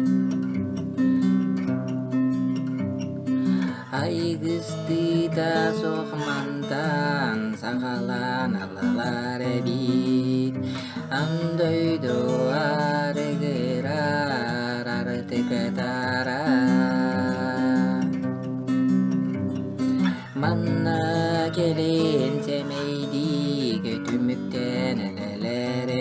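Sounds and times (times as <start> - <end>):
acoustic guitar playing: 0.0 - 26.0
wordless vocal melody: 0.0 - 26.0.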